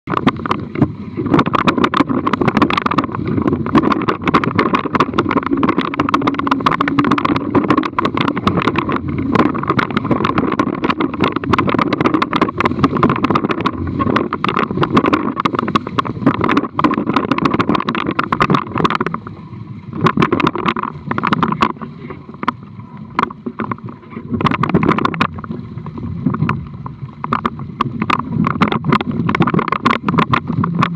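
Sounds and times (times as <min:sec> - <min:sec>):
water rushing along boat hulls: 0:00.0 - 0:30.9
waves slapping: 0:00.0 - 0:30.9
wind buffeting microphone: 0:00.0 - 0:30.9.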